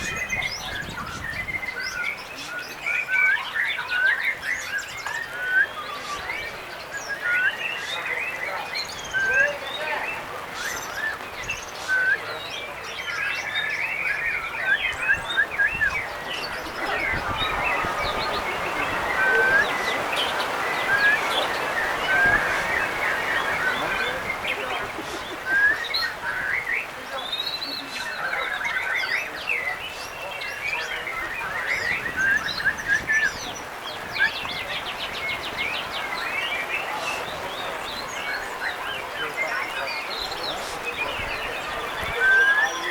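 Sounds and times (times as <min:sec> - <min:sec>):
birds whistling and chirping: 0:00.0 - 0:42.9
songbirds singing: 0:00.0 - 0:42.9.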